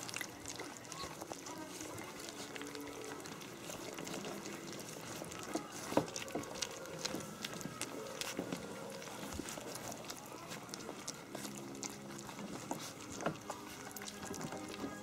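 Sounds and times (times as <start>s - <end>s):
puppies lapping food: 0.0s - 15.0s.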